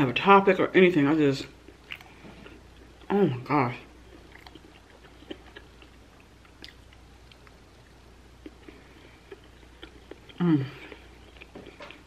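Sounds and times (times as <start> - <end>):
person chewing soft food: 1.6 - 3.1, 3.8 - 12.0.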